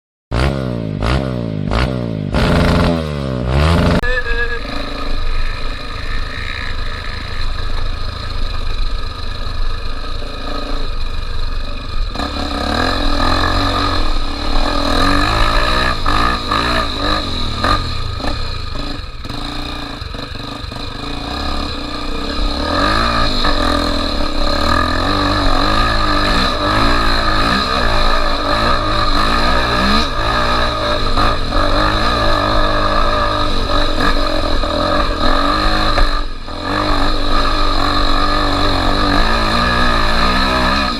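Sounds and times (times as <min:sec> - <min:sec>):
motorcycle engine revving: 0:00.3 - 0:40.9.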